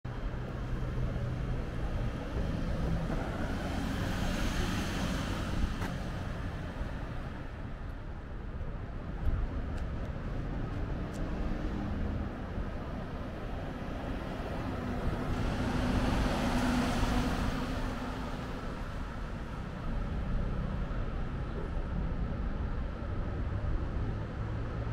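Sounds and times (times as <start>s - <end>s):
vehicle engine and tyre noise: 0.1s - 24.9s.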